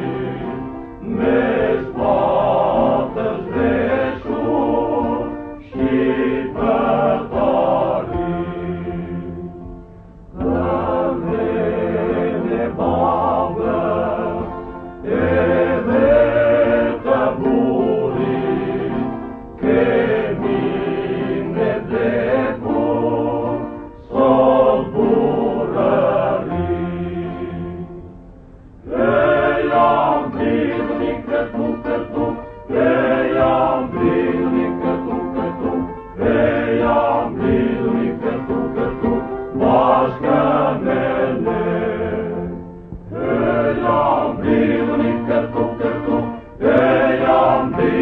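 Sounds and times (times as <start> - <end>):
choir singing: 0.0 - 48.0.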